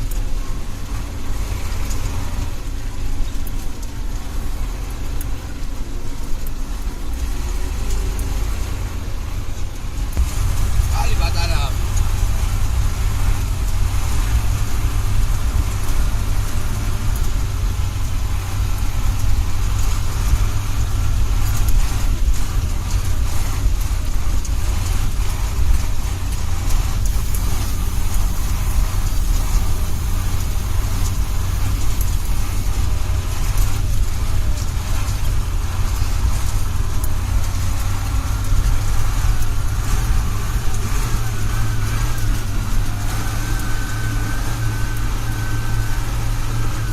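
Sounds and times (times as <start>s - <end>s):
truck diesel engine rumbling: 0.0s - 46.9s.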